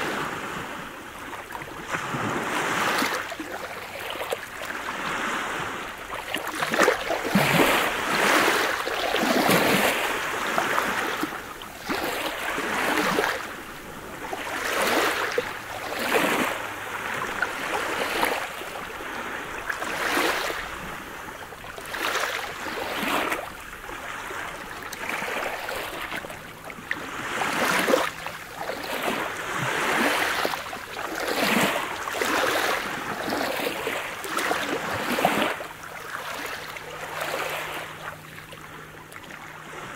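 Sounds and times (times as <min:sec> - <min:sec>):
waves breaking on pebble beach: 0:00.0 - 0:38.0.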